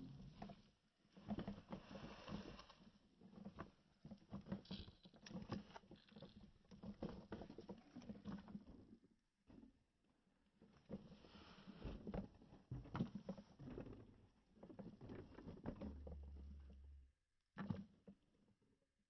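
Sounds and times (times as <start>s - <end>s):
faint clattering and knocking: 0.0s - 18.3s.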